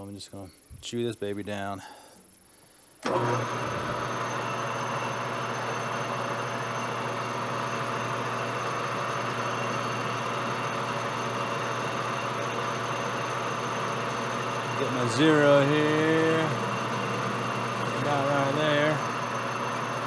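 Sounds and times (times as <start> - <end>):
metal lathe humming: 3.0 - 20.0.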